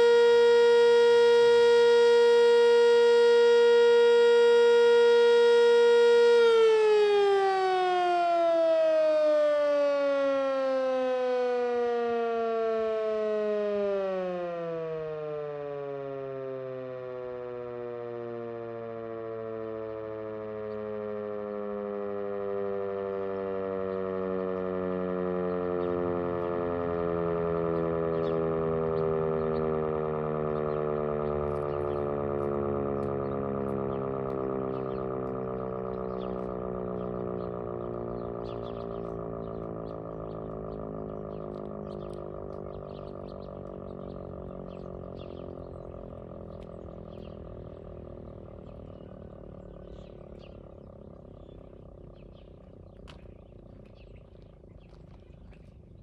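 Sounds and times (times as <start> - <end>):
warning siren winding down: 0.0 - 56.0.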